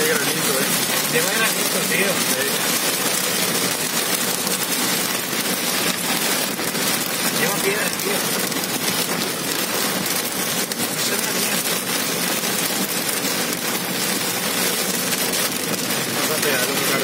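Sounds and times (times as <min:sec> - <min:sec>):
heavy rain on car roof: 0:00.0 - 0:17.0.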